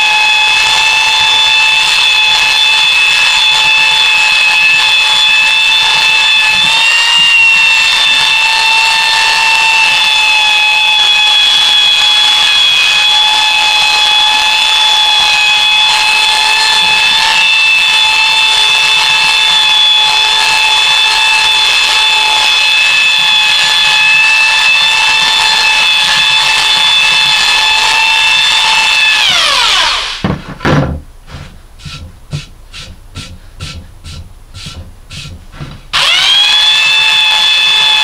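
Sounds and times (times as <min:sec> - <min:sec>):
belt sander whining: 0:00.0 - 0:30.3, 0:31.3 - 0:38.0.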